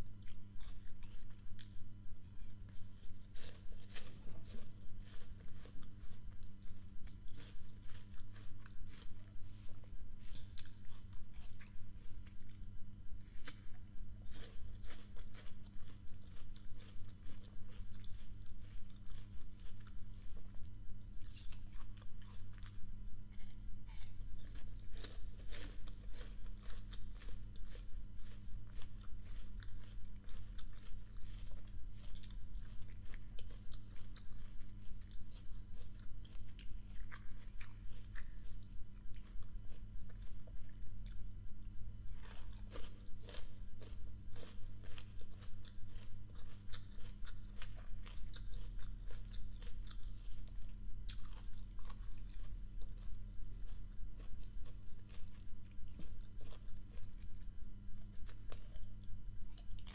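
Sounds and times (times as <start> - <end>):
person chewing crisp apple: 0.0 - 59.9
steady low hum: 0.0 - 59.9.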